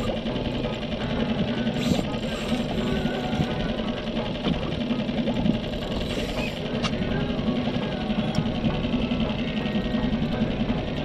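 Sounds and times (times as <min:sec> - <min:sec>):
background music: 0:00.0 - 0:11.0
outboard motor chugging: 0:00.0 - 0:11.0.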